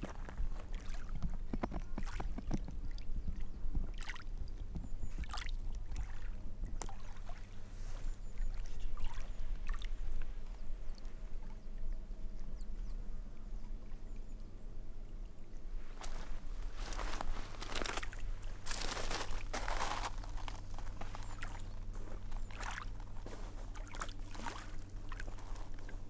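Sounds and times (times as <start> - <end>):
lake water lapping: 0.0 - 1.2, 1.8 - 14.4, 15.0 - 26.0.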